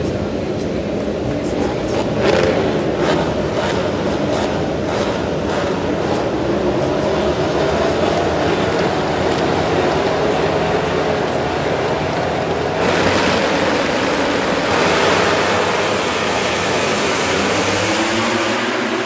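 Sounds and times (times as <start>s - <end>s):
motorcycle engines revving hard: 1.2s - 19.0s.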